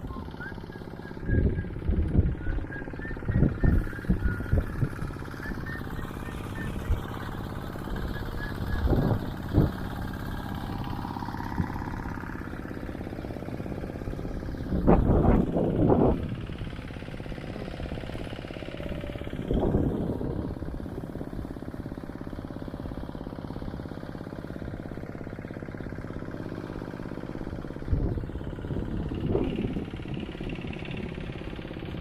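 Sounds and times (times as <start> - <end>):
hand tractor engine running: 0.0 - 32.0.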